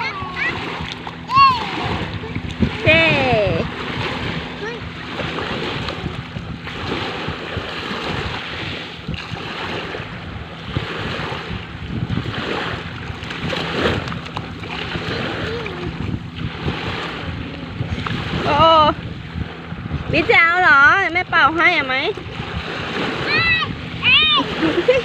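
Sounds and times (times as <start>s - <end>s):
sea waves washing on shore: 0.0s - 25.0s
wind buffeting microphone: 0.0s - 25.0s.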